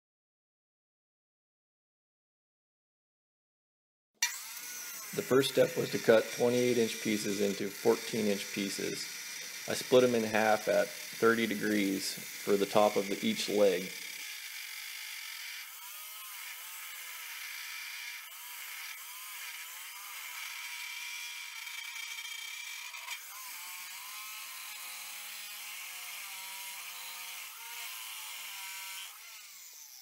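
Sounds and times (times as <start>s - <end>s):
chop saw cutting steel: 4.2s - 30.0s.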